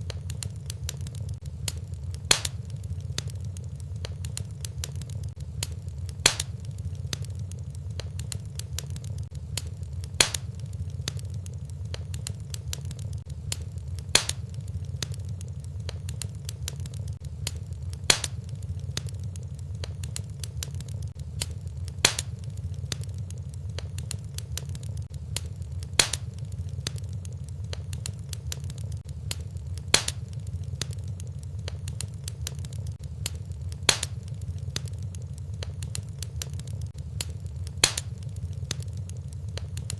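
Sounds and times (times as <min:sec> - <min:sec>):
sharp fire pops: 0:00.0 - 0:39.9
wood fire crackling: 0:00.0 - 0:39.9.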